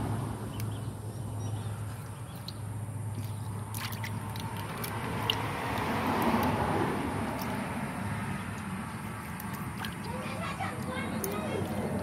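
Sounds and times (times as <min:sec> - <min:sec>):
water sloshing and splashing in a tub: 0:00.0 - 0:12.0.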